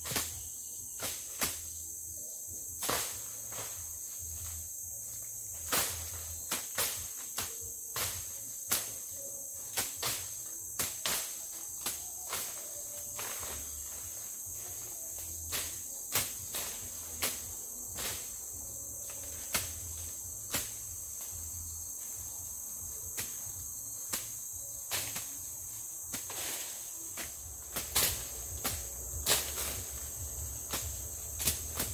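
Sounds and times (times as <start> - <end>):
insects droning: 0.0 - 31.9.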